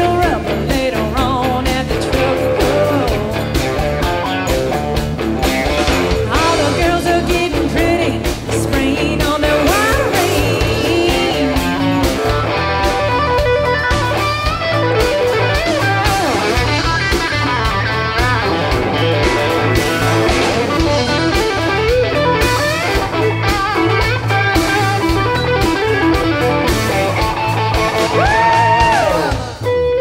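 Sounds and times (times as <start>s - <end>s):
drum and bass beat: 0.0s - 30.0s
electric guitar with sliding notes: 0.0s - 30.0s.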